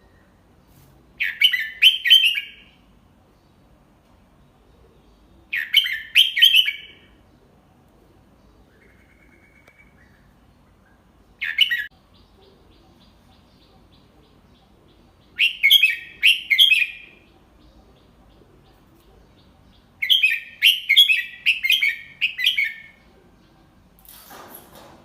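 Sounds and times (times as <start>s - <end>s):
bird chirping song: 0.0s - 24.3s.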